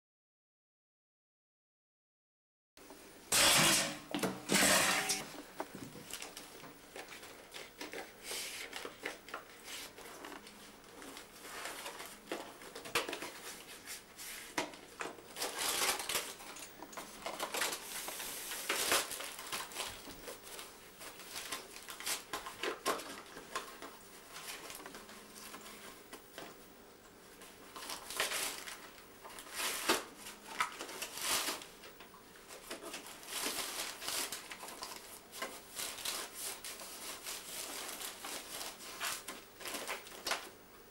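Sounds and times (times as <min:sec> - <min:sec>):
wrapping paper crinkling and tearing: 0:06.0 - 0:26.5, 0:27.3 - 0:40.6.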